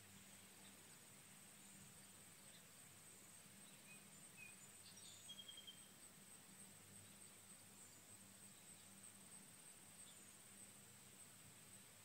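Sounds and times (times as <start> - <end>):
faint bird chirps: 0.0 - 6.2, 6.9 - 10.5.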